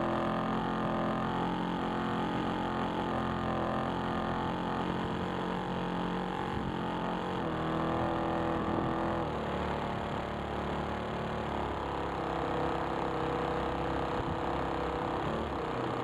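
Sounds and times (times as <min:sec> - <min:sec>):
model airplane motor whine: 0:00.0 - 0:16.0.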